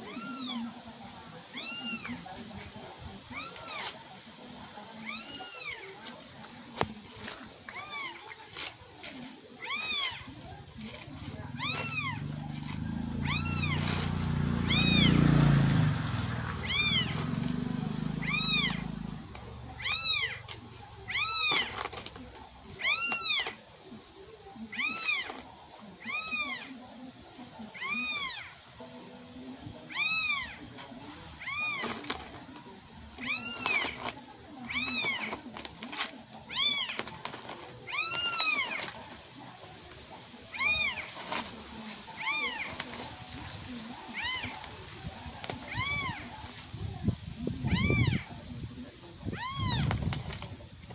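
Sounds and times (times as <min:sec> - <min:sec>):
kittens mewing: 0:00.0 - 0:00.8, 0:01.4 - 0:23.9, 0:24.6 - 0:26.8, 0:29.8 - 0:39.8, 0:40.4 - 0:43.4, 0:44.0 - 0:46.6, 0:47.5 - 0:48.4, 0:49.2 - 0:50.4.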